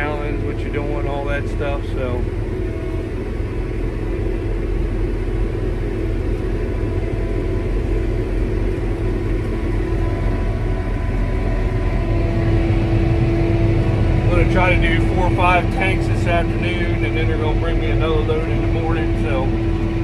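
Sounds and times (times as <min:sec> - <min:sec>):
constant hum: 0:00.0 - 0:20.0
engine rumble: 0:00.0 - 0:20.0.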